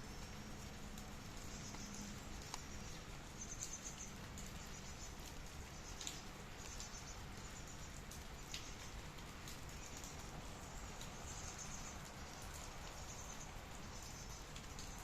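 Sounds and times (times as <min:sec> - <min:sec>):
rain patter: 0:00.0 - 0:15.0
sharp raindrop: 0:00.0 - 0:15.0.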